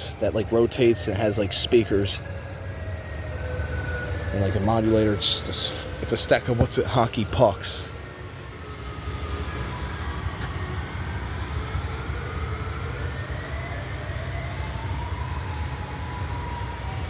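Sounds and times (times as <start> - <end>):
distant warning sirens wailing: 0.0 - 17.0.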